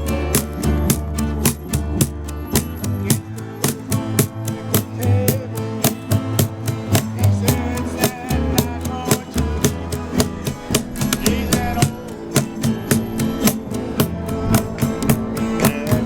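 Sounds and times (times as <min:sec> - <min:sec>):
guitars strumming: 0:00.0 - 0:16.0
live country band playing: 0:00.0 - 0:16.0.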